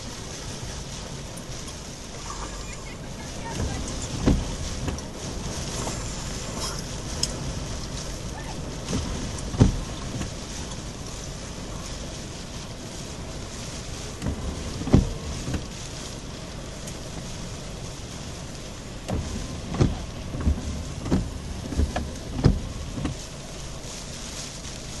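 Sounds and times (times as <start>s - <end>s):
low thumps from gusts: 0.0s - 25.0s.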